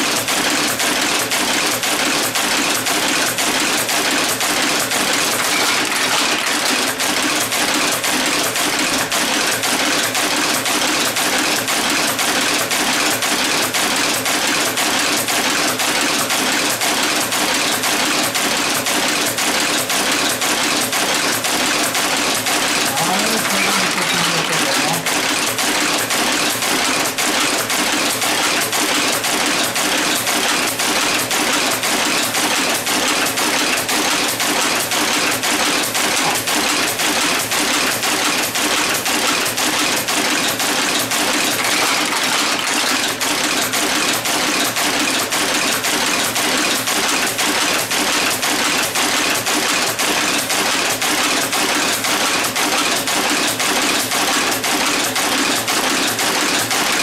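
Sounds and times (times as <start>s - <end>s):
casting machine clattering: 0.0s - 57.0s.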